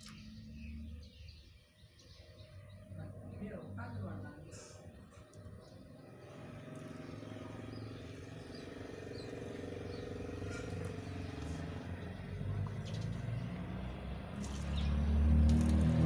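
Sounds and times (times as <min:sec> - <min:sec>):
vehicle engine running: 0:03.0 - 0:16.0.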